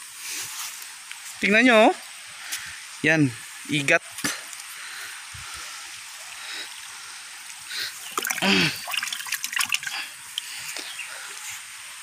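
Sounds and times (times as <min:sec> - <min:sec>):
steady hiss: 0:00.0 - 0:12.0
water trickling and splashing: 0:00.3 - 0:12.0.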